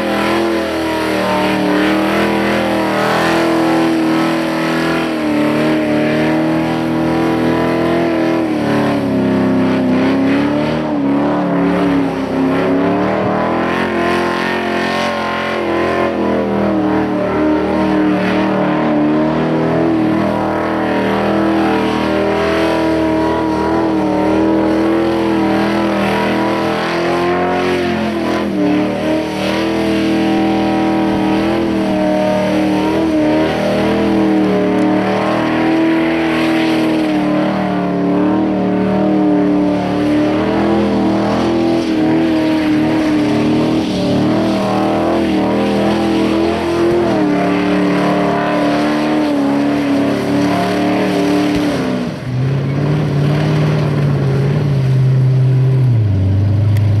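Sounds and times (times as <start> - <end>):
car engine revving high: 0.0 - 57.0.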